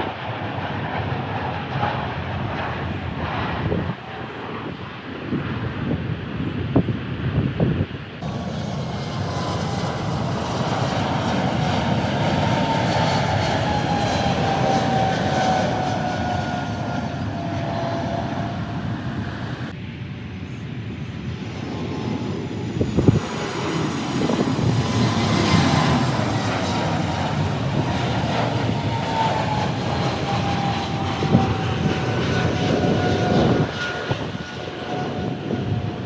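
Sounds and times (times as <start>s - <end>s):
jet airliner engine roar: 0.0s - 36.0s.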